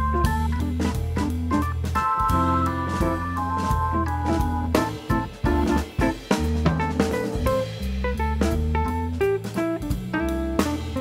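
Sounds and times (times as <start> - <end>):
bass line: 0.0 - 11.0
drum hits: 0.0 - 11.0
organ-like keyboard chords: 0.0 - 11.0.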